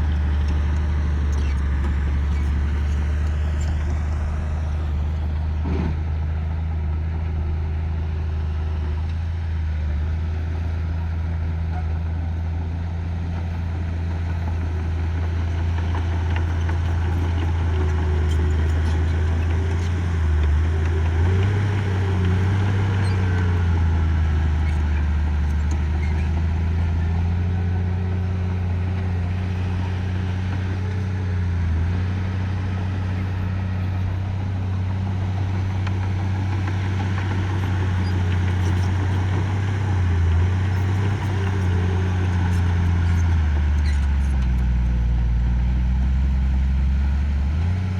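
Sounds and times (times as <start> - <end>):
construction machinery diesel engine: 0.0 - 47.9.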